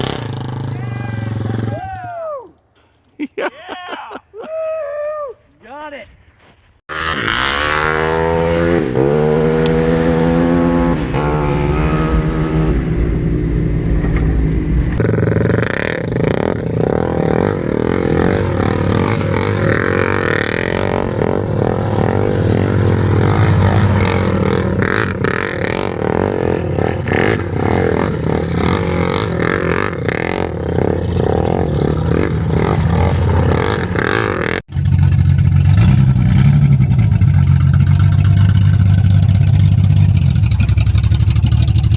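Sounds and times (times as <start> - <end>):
car engine revving: 6.9 - 41.9.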